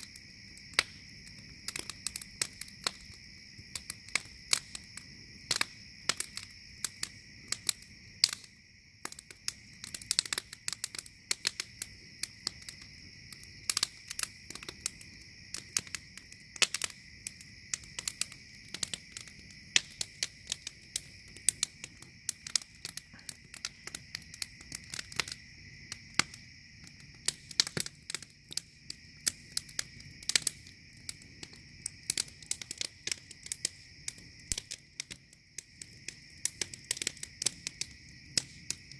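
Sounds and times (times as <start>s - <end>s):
night insects chorus: 0.0s - 38.9s
wood fire crackling and popping: 0.0s - 38.9s.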